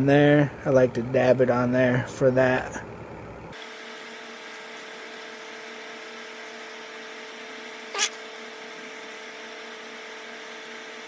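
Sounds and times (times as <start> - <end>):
steady hum with light hiss: 0.0 - 11.0.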